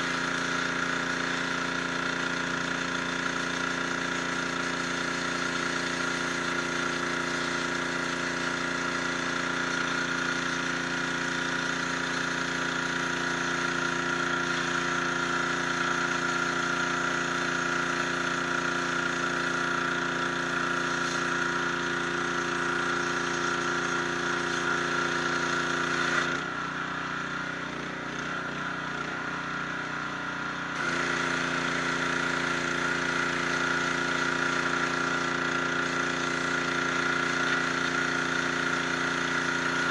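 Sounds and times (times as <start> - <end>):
water jet hissing: 0.0 - 26.4, 30.8 - 39.9
pressure washer motor humming: 0.0 - 39.9.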